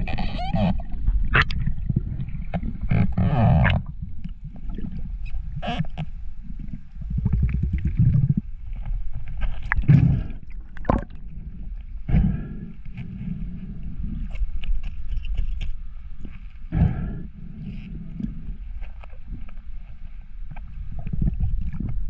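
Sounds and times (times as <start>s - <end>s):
underwater rumble of moving water: 0.0s - 22.0s.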